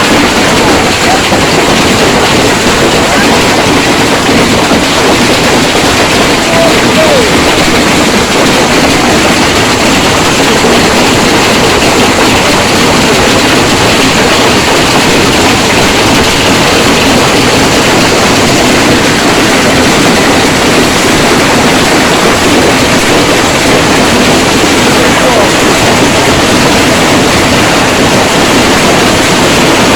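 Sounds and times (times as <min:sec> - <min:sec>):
hailstones pelting down: 0:00.0 - 0:29.9.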